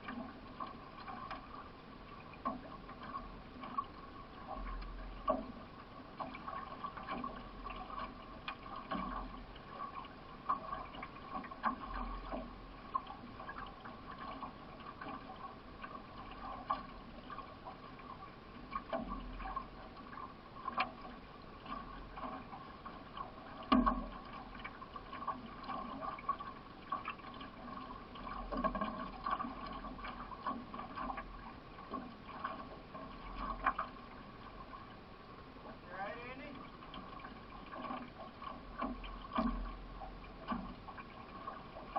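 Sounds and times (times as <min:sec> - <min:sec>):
paddle strokes: 0:00.0 - 0:41.9
water splashing and trickling: 0:00.0 - 0:41.9.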